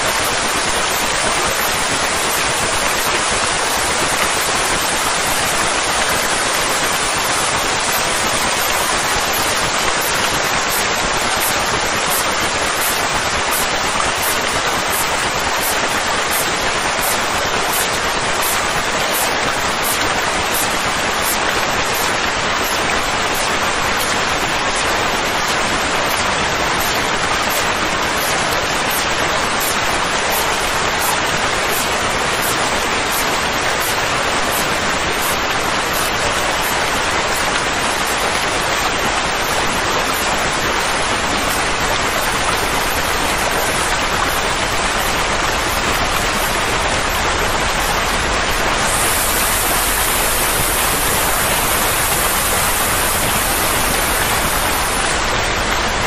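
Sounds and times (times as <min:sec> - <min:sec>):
steady rushing hiss noise: 0:00.0 - 0:56.0.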